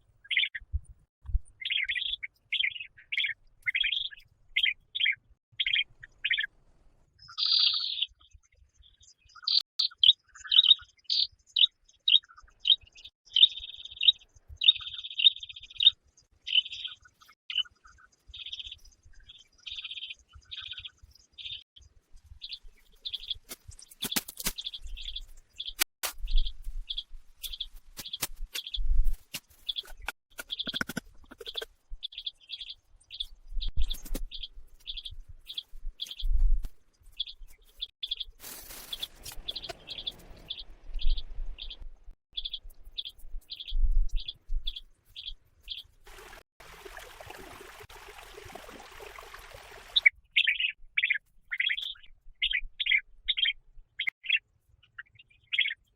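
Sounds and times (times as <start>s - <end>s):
bird chirping: 0.0s - 0.8s, 1.4s - 6.5s, 7.2s - 46.3s, 49.8s - 55.9s.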